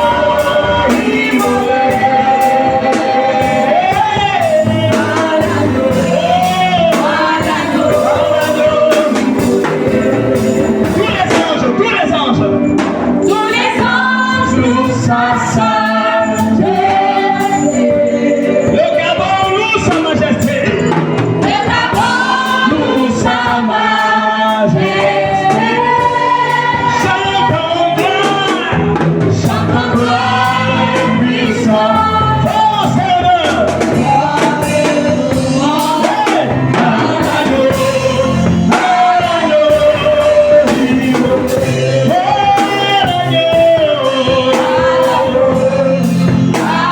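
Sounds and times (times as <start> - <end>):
gospel choir singing: 0.0 - 46.9
steady bass accompaniment: 0.0 - 46.9.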